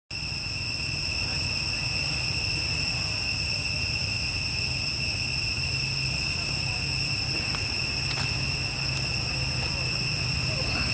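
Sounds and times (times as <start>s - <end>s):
forest insects droning: 0.1s - 10.9s.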